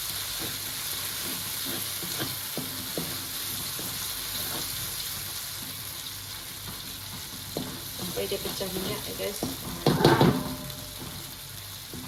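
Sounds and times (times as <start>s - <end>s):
curry paste sizzling in hot oil: 0.0s - 12.0s
utensil scraping pan: 0.4s - 5.0s, 6.7s - 12.0s.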